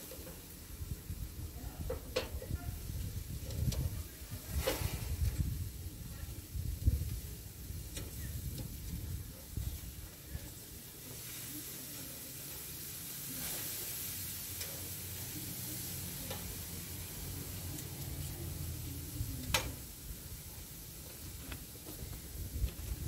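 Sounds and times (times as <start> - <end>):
steaks sizzling on a grill: 0.0 - 23.0.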